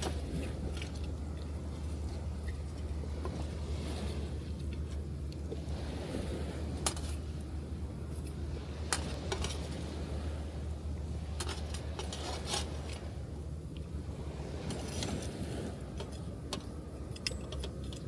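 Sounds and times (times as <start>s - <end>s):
surf rumble: 0.0s - 18.0s.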